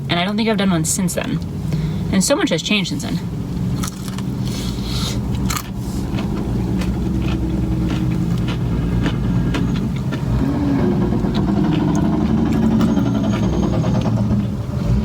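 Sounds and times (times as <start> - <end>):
truck engine running rough: 0.0 - 15.0.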